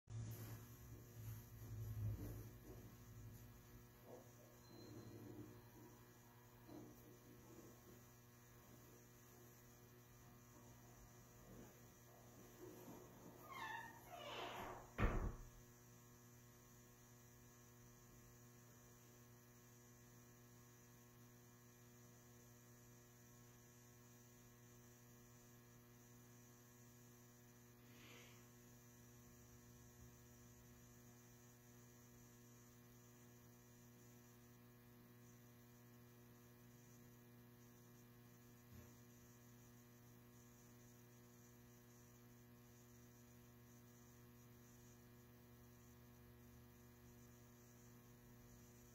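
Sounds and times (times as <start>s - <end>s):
low electrical mains hum: 0.1s - 48.9s.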